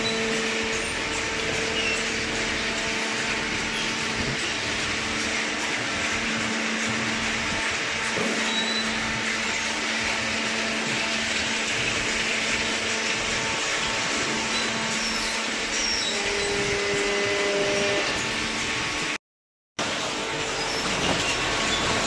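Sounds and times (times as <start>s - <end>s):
motor hum: 0.0s - 19.2s
steady machine tone: 0.0s - 19.2s.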